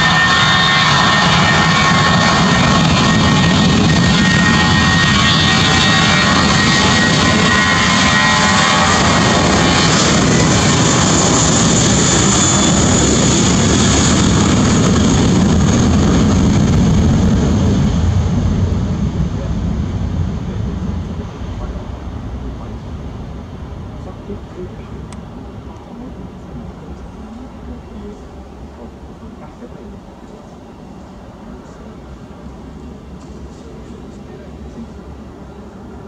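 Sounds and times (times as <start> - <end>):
high engine whine: 0.0 - 36.0
jet engine roar: 0.0 - 36.0.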